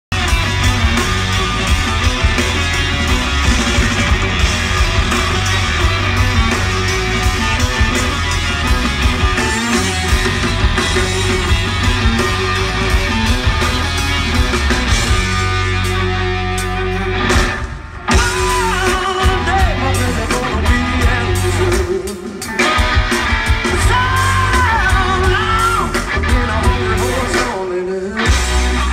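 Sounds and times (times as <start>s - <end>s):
bass guitar: 0.0s - 28.9s
drums: 0.0s - 28.9s
electric guitar: 0.1s - 28.9s.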